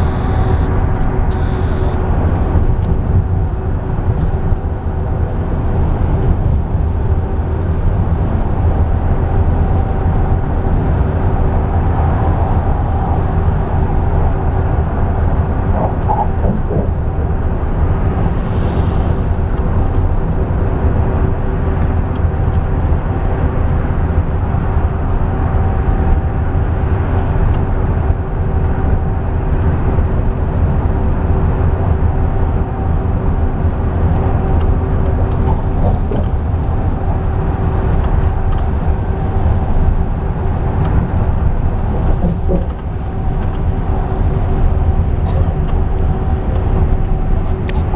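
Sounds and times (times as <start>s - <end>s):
bus engine and road noise: 0.0s - 47.9s
steady hum: 0.0s - 47.9s.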